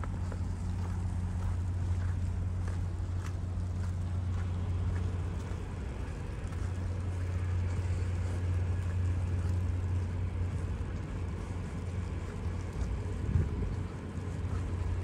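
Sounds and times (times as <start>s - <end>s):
distant motor rumble: 0.0s - 15.0s.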